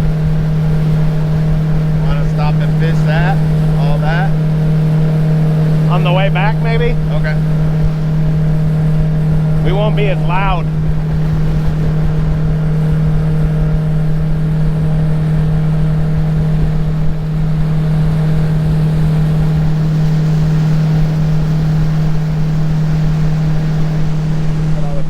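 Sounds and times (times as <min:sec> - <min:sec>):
boat jet motor droning: 0:00.0 - 0:25.0.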